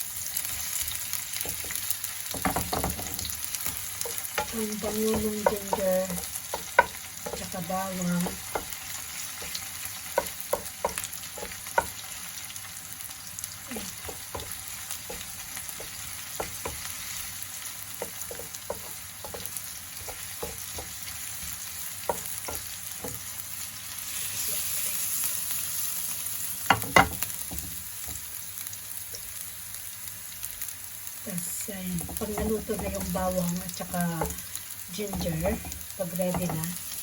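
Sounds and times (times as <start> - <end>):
garlic sizzling in oil: 0.0 - 37.0.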